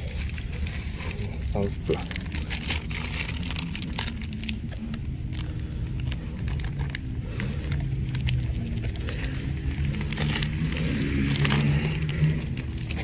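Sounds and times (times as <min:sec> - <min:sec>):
paper bag crinkling: 0:00.0 - 0:13.0
steady low rumble: 0:00.0 - 0:13.0.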